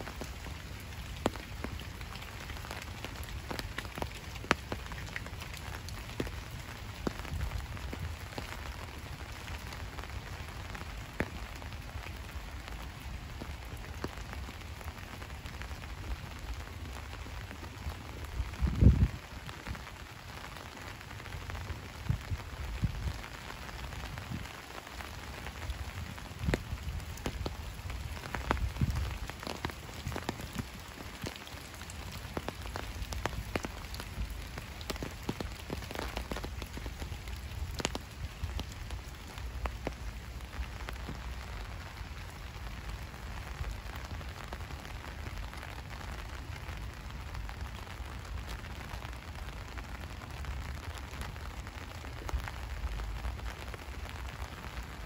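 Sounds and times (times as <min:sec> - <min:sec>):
raindrops ticking sharply: 0:00.0 - 0:55.0
steady rain falling: 0:00.0 - 0:55.0.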